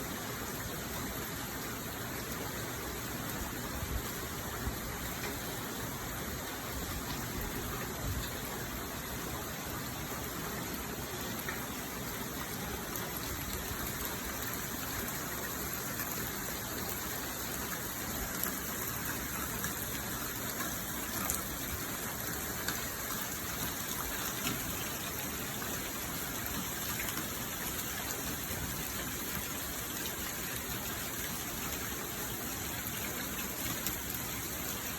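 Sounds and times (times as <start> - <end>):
heavy rain: 0.0 - 34.9
water gushing: 0.0 - 34.9.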